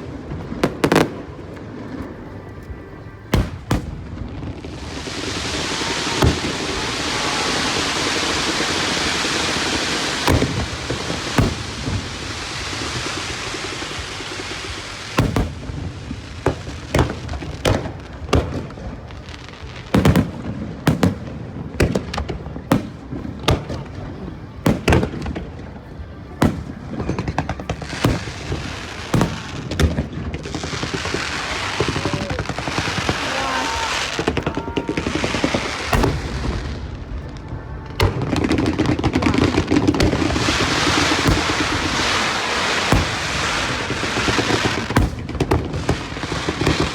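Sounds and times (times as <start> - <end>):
fireworks bangs: 0.0 - 46.9
fireworks crackling hiss: 0.0 - 46.9.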